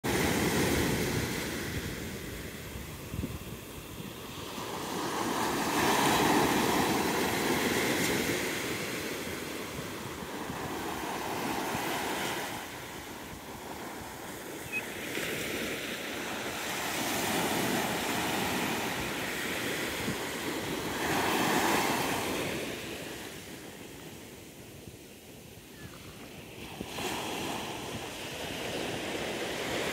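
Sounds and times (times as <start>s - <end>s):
waves breaking on beach: 0.1s - 29.9s.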